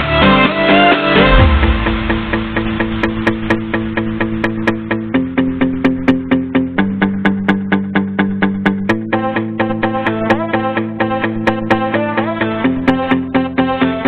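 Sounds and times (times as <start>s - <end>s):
held chords: 0.0s - 14.0s.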